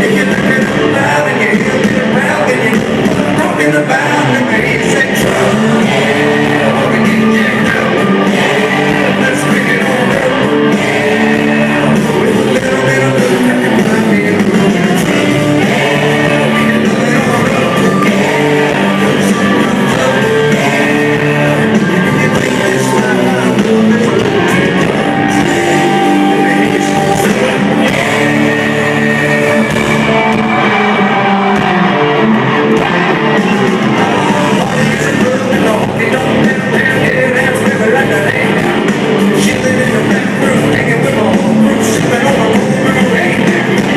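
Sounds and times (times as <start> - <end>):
electric guitars: 0.0 - 43.9
lead singer: 0.0 - 43.9.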